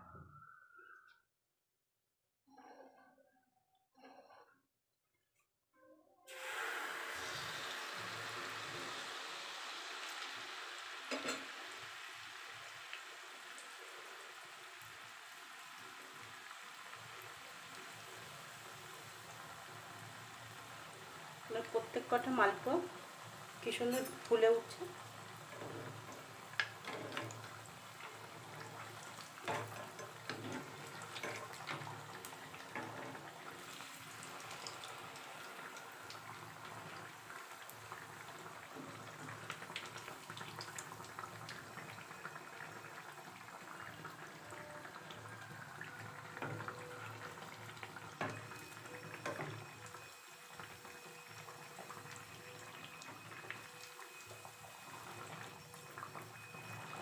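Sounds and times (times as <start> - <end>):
food frying in hot oil: 6.3 - 57.0.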